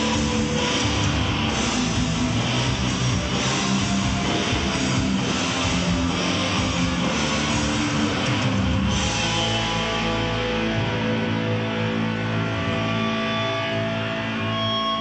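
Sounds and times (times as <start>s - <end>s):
ringing electric guitar chords: 0.0s - 15.0s
rock band playing live: 0.0s - 15.0s.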